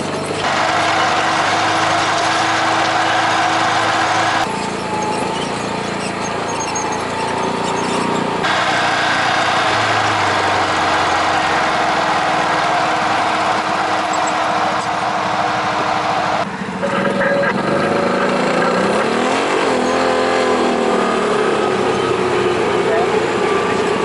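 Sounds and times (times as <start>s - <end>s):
vehicle engine drone: 0.0s - 24.0s.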